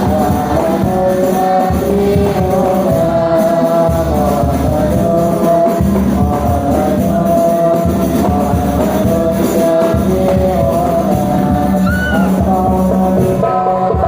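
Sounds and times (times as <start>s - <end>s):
child singing devotional song: 0.0s - 14.0s
percussion: 0.0s - 14.0s.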